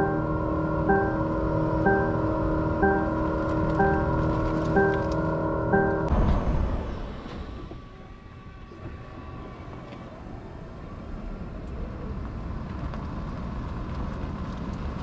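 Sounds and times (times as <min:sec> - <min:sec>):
tyres rolling on pavement: 0:00.0 - 0:15.0.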